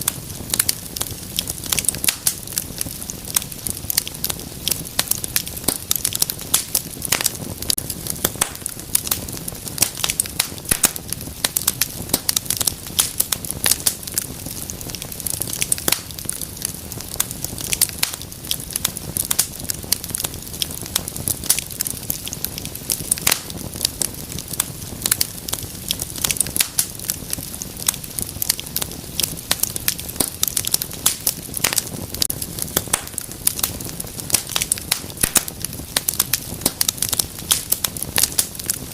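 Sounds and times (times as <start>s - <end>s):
low rush of flame: 0.0s - 38.9s
wood fire crackling and popping: 0.0s - 38.9s.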